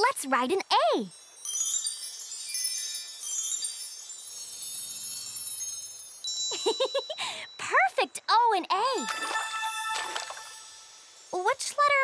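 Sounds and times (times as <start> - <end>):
magic wand sparkle chime: 1.0 - 7.7, 8.8 - 12.0.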